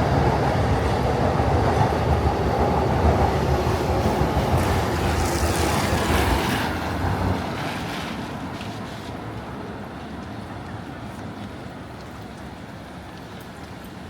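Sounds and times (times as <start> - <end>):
street noise: 0.0 - 14.0
train passing with low rumble: 0.0 - 14.0.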